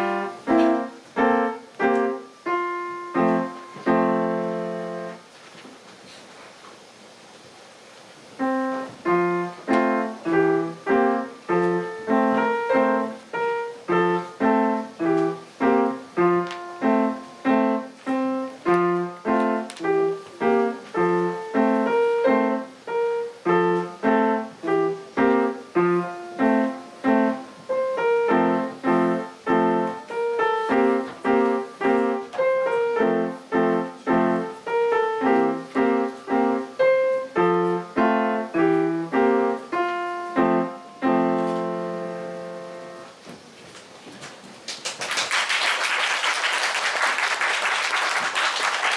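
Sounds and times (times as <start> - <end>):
piano playing a simple tune: 0.0 - 5.3, 8.3 - 43.3.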